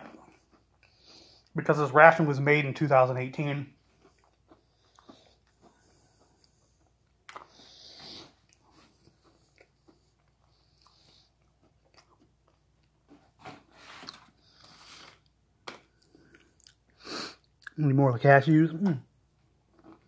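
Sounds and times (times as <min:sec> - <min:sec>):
person chewing and crunching food: 0:00.0 - 0:01.6, 0:03.7 - 0:17.8, 0:19.3 - 0:20.0.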